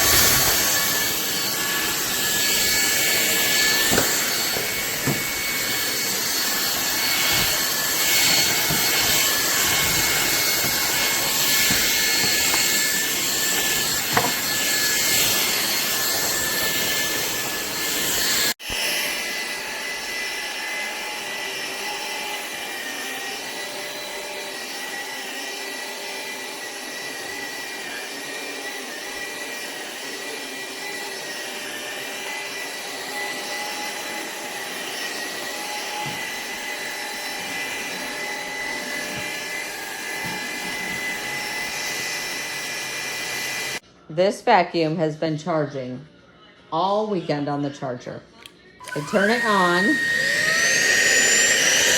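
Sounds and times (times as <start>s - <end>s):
stick vacuum whining: 0.0s - 43.8s, 48.4s - 51.9s.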